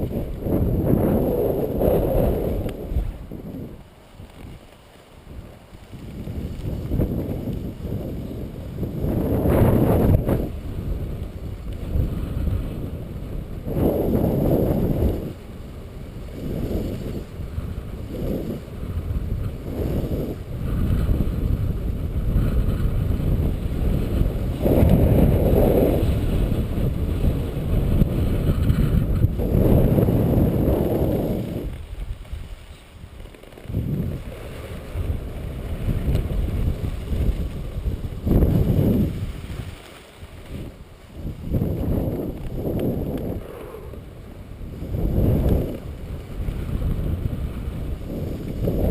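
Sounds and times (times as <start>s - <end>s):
gusty wind buffeting microphone: 0.0s - 48.9s.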